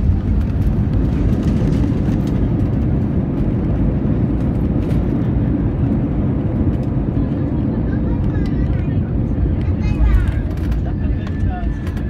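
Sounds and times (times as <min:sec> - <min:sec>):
jet engines rumbling: 0:00.0 - 0:12.0
wheels rolling on runway: 0:00.0 - 0:12.0.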